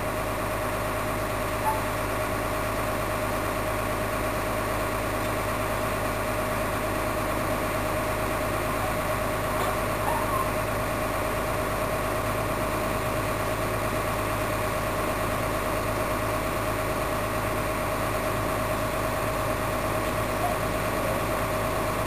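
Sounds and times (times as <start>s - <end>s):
heavy machinery engine drone: 0.0s - 22.0s.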